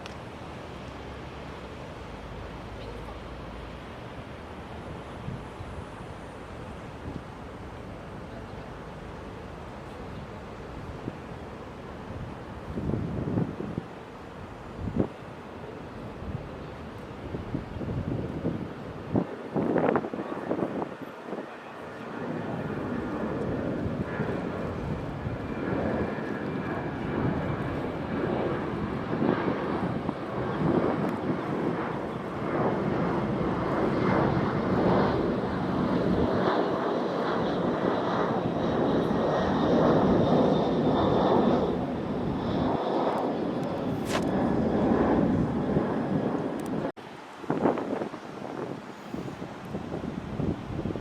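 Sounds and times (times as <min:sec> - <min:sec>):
jet airliner passing: 0:00.0 - 0:49.4.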